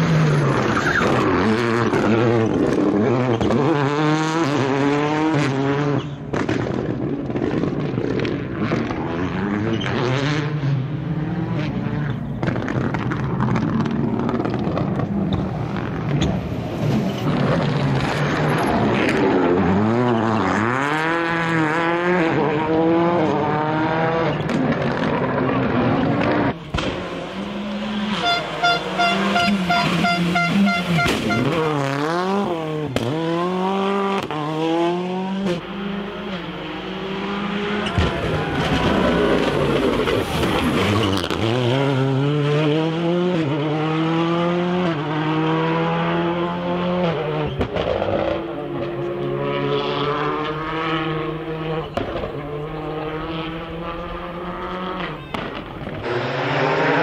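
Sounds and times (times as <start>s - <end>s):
rally car engines revving hard: 0.0s - 57.0s.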